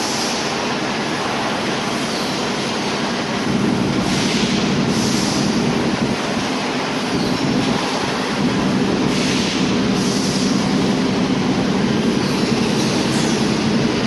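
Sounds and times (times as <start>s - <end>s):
shrink-wrapping machine humming: 0.0s - 14.0s.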